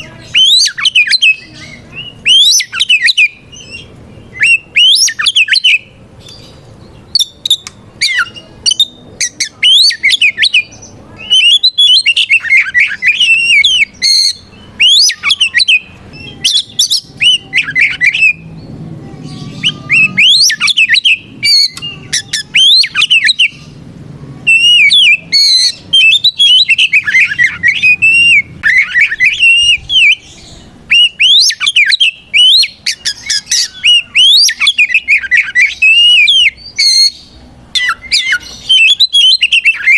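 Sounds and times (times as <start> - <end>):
bird singing whistled trills: 0.1 - 18.7, 19.3 - 23.8, 24.5 - 39.9.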